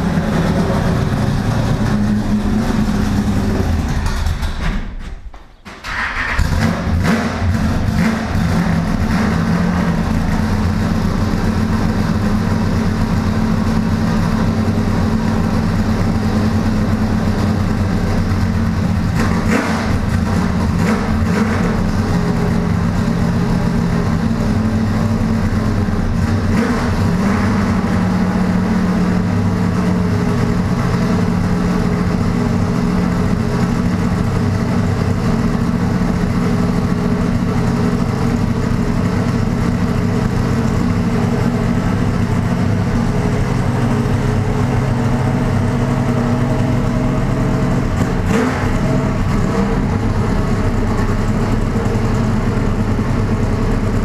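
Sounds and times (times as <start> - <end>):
race car engine idling: 0.0 - 4.6, 6.4 - 54.0.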